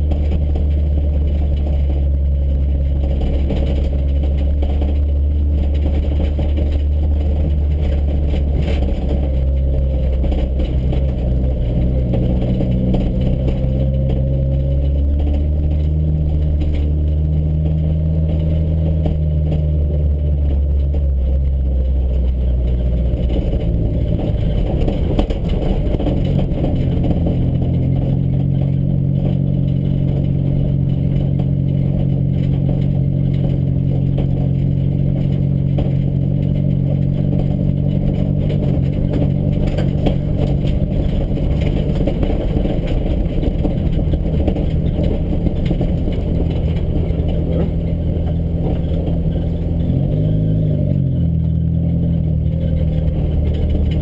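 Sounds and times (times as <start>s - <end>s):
vehicle engine from inside cabin: 0.0s - 54.0s.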